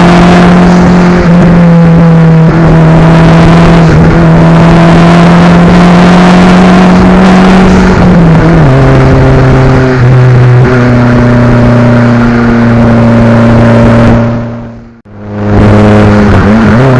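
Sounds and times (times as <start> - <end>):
car engine and exhaust under load: 0.0 - 16.9.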